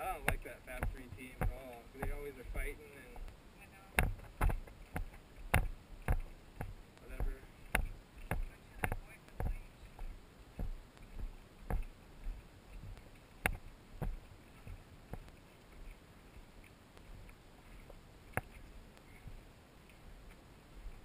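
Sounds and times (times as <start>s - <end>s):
footsteps on rocky dirt trail: 0.0s - 3.3s, 4.0s - 19.4s.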